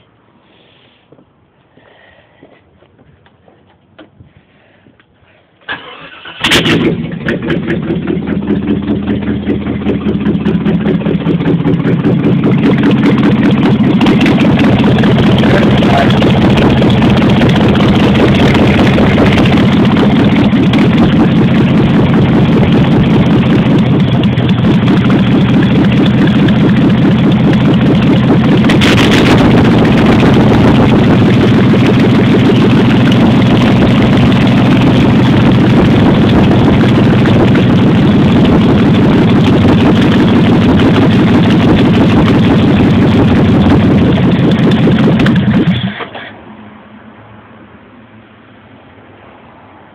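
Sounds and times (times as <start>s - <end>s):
loud car engine idling: 5.8s - 46.1s.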